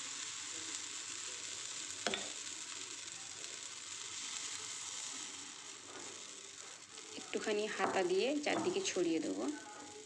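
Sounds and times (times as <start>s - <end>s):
batter sizzling in oil: 0.0s - 10.0s.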